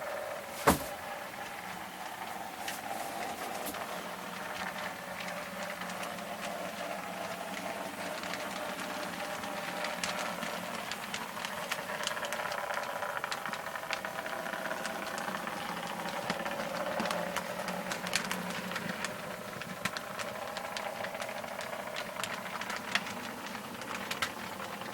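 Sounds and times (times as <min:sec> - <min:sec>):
model train wheels clicking: 0:00.0 - 0:24.9.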